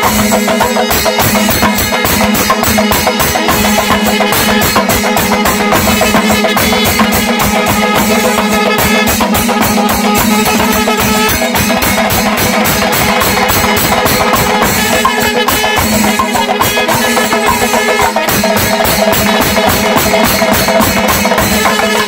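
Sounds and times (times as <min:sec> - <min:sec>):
fast hand drumming: 0:00.0 - 0:22.0.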